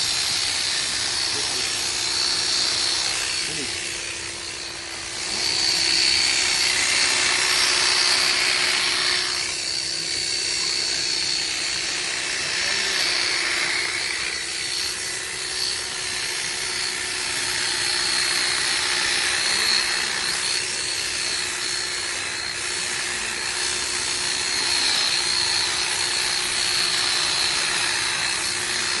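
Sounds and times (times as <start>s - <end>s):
electric shearing clipper running: 0.0s - 29.0s.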